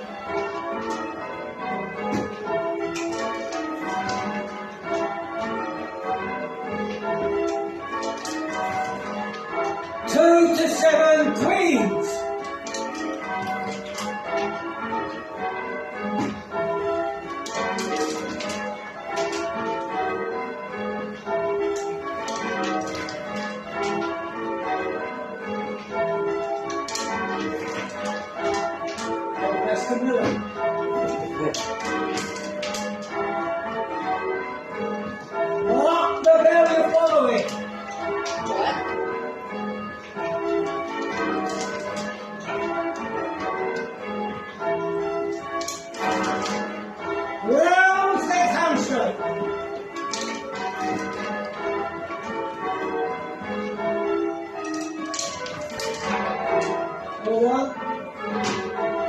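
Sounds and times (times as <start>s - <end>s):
church bells change ringing: 0.0s - 59.0s.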